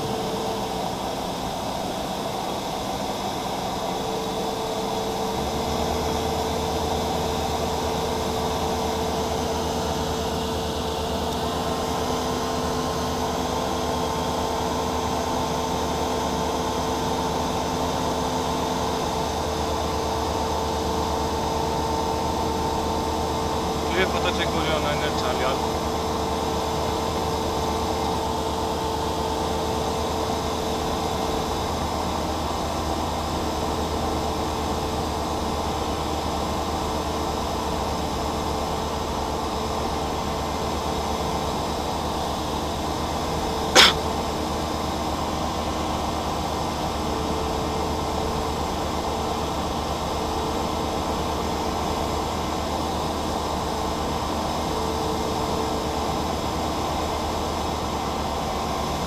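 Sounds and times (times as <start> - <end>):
propeller engine droning: 0.0 - 59.0.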